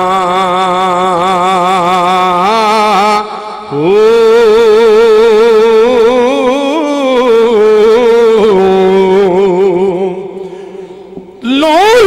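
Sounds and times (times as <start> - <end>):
man singing long ornamented note: 0.0 - 12.0.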